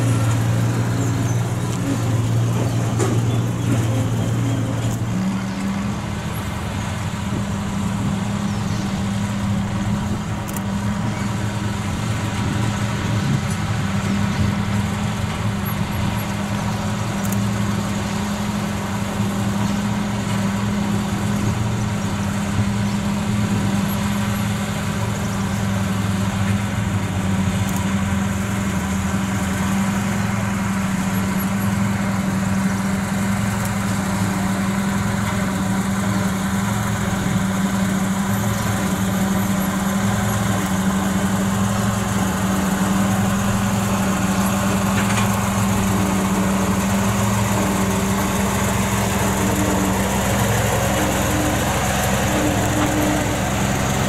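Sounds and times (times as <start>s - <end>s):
diesel locomotive engine humming: 0.0s - 54.0s.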